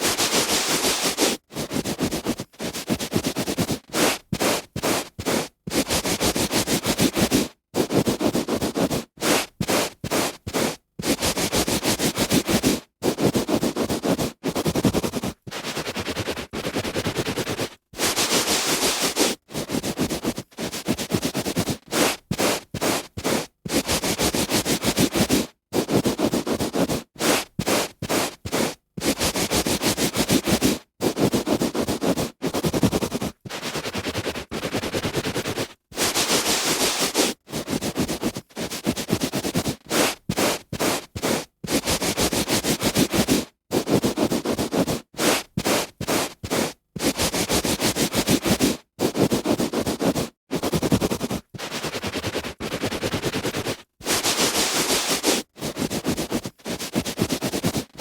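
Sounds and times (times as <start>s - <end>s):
hand rubbing on carpet: 0.0s - 57.8s.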